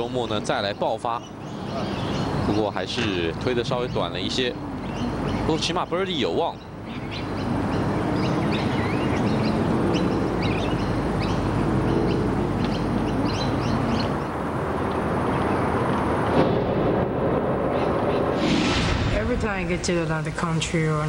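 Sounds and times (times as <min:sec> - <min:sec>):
birds chirping: 0:00.0 - 0:16.3, 0:17.5 - 0:18.4
outdoor background hiss: 0:00.0 - 0:21.0.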